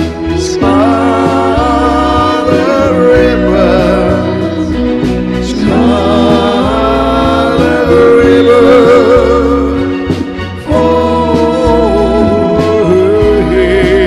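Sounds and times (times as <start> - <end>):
bass line: 0.0 - 14.0
man singing with vibrato: 0.1 - 14.0.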